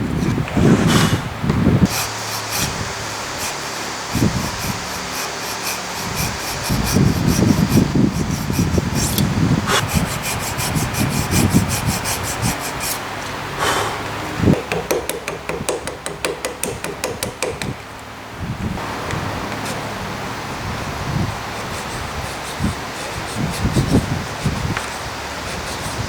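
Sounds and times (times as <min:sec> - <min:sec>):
hand tool scraping wood: 0:00.0 - 0:13.0, 0:13.6 - 0:17.7, 0:21.5 - 0:26.0.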